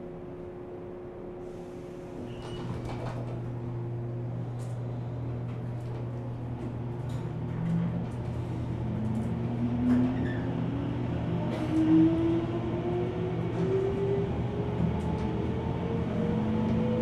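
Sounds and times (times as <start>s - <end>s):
train electrical hum: 0.0s - 17.0s.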